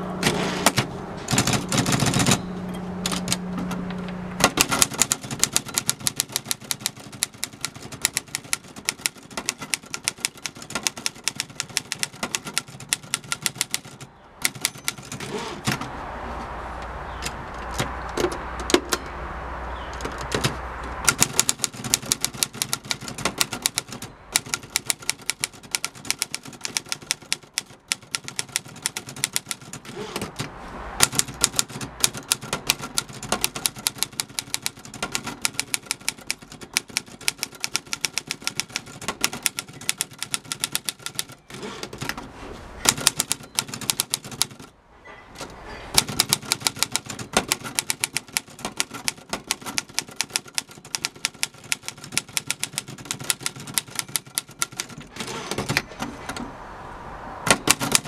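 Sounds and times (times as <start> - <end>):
manual typewriter typing: 0.2 - 15.9, 17.1 - 19.1, 19.9 - 44.8, 45.4 - 56.5, 57.4 - 58.0.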